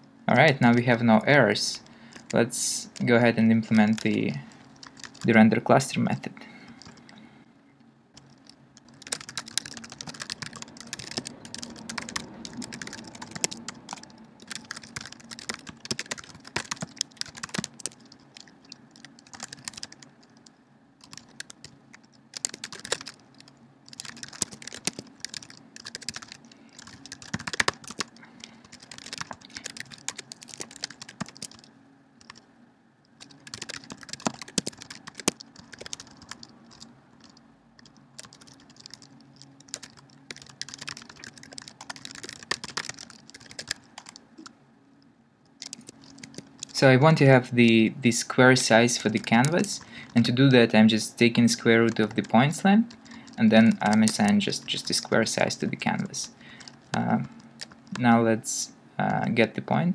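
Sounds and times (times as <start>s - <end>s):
computer keyboard typing: 1.8s - 5.5s, 6.7s - 7.1s, 8.2s - 32.4s, 33.2s - 44.5s, 45.6s - 46.8s, 48.8s - 50.4s, 51.4s - 58.1s.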